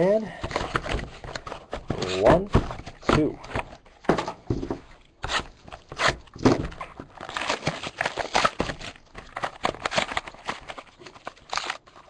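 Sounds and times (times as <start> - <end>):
card packs rustling: 0.0 - 12.0.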